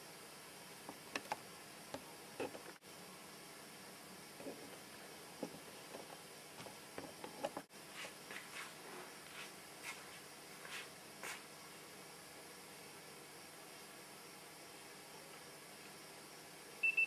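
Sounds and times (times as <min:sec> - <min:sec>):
recording hiss: 0:00.0 - 0:17.0.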